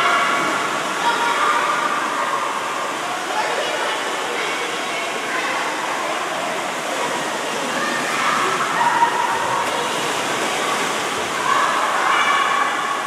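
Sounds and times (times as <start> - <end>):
children's voices: 0.0 - 13.0
water rushing down slides: 0.0 - 13.0.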